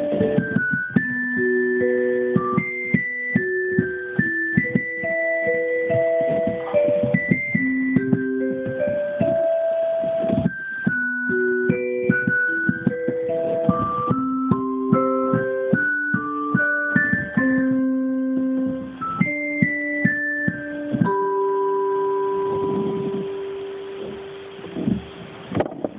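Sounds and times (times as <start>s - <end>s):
digital piano vibraphone melody: 0.0s - 25.2s.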